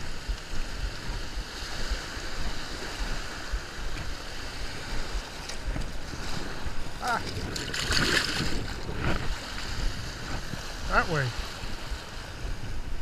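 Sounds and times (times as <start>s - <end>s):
surf washing over sand: 0.0s - 13.0s
wind buffeting microphone: 0.0s - 13.0s.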